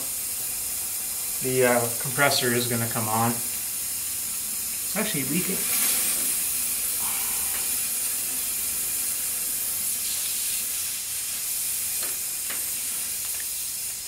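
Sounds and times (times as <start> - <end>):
compressed air hissing: 0.0 - 14.0.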